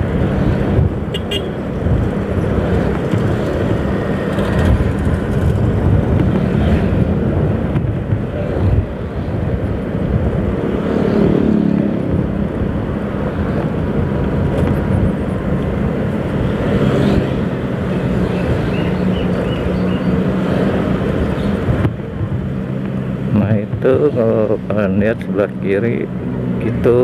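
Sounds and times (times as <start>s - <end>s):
road and wind noise: 0.0s - 27.0s.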